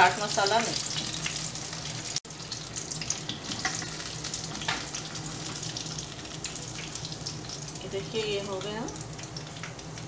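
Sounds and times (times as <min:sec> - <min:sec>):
hot oil sizzling and crackling: 0:00.0 - 0:10.0.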